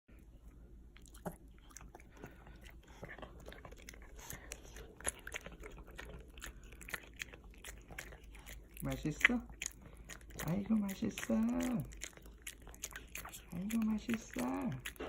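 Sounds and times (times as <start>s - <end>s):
dog chewing crunchy snack: 1.0s - 15.0s.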